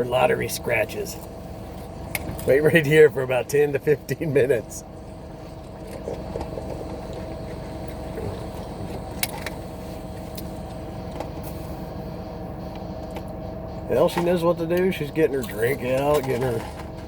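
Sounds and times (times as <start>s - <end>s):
car engine idling: 0.0s - 17.0s
steady hum: 0.0s - 17.0s.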